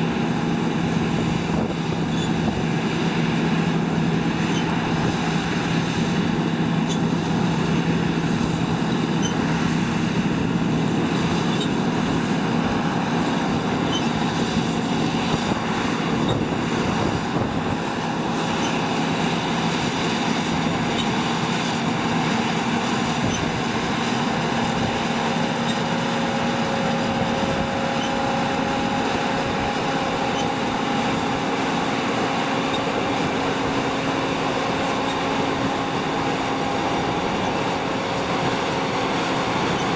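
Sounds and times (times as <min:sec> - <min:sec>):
diesel farm machinery engine drone: 0:00.0 - 0:39.9
held whining tones: 0:00.2 - 0:39.9.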